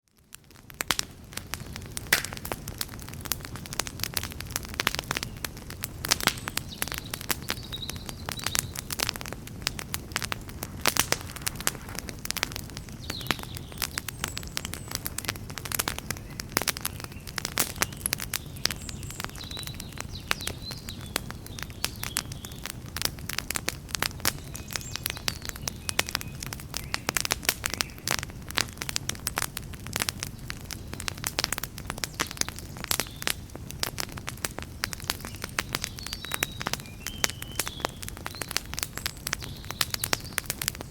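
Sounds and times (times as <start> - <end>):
campfire crackling: 0.1 - 40.9.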